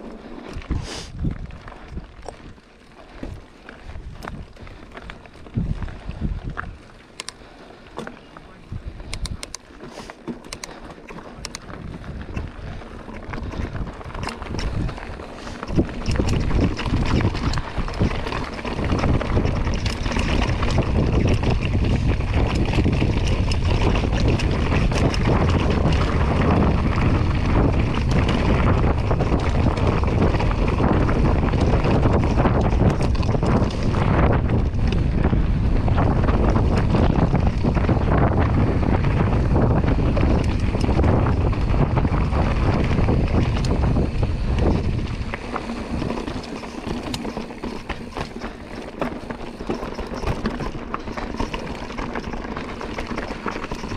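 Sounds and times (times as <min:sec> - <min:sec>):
wind buffeting microphone: 0:00.0 - 0:02.6, 0:03.2 - 0:07.6, 0:08.5 - 0:09.6, 0:11.3 - 0:53.9
mountain bike rattling: 0:00.0 - 0:53.9
tyres crunching on gravel: 0:00.0 - 0:53.9.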